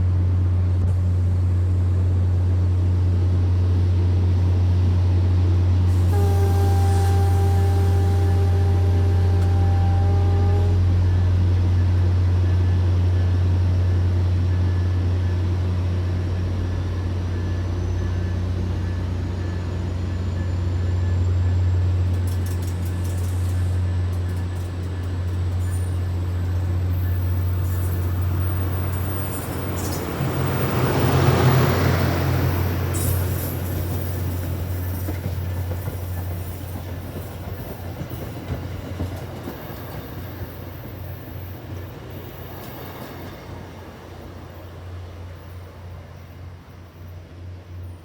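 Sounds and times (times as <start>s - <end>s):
train approaching: 0.0s - 48.0s.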